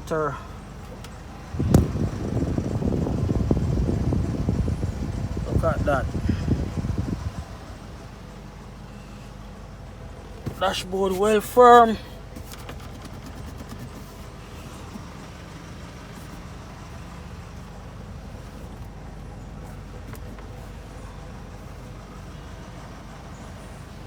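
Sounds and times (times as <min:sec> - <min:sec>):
air conditioning blowing: 0:00.0 - 0:24.0
car engine idling: 0:00.0 - 0:24.0.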